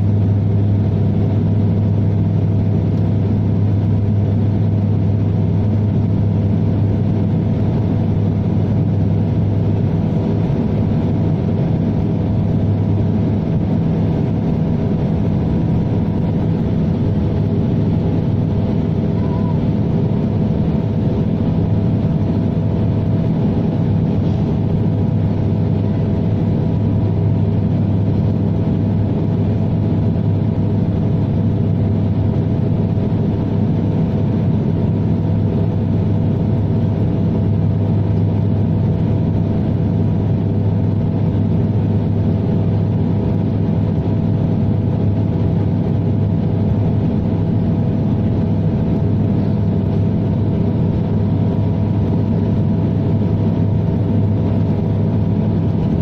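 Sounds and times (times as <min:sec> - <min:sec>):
propeller and engine drone: 0:00.0 - 0:56.0.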